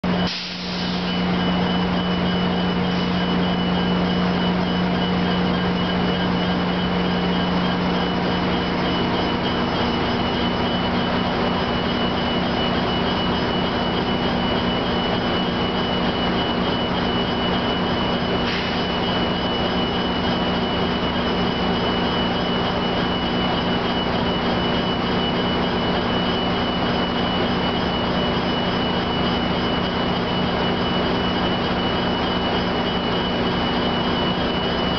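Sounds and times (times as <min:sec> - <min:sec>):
large engine drone: 0:00.0 - 0:34.9.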